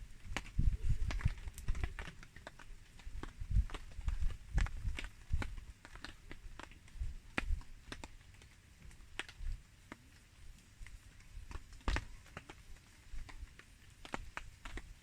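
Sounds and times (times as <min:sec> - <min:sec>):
campfire crackling: 0:00.0 - 0:15.0
rain: 0:00.0 - 0:15.0.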